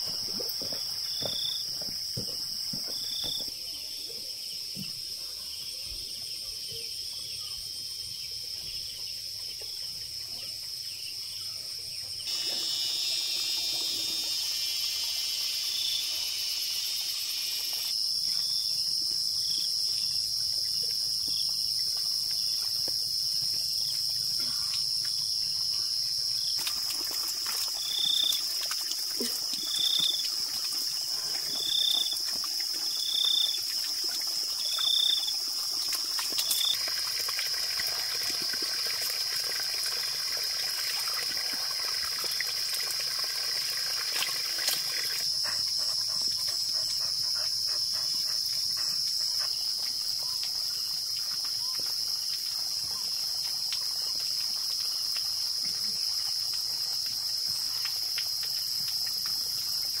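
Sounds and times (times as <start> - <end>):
insects droning: 0.0 - 60.0.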